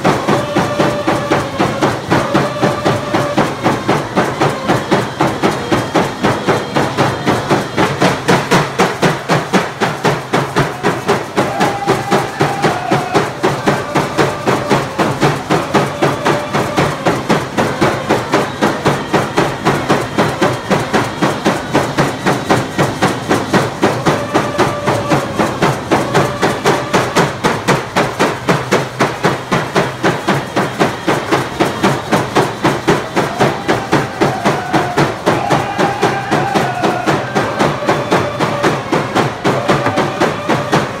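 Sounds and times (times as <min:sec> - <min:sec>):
group of voices singing: 0:00.0 - 0:27.6, 0:32.8 - 0:41.0
hand drums beating: 0:00.0 - 0:41.0.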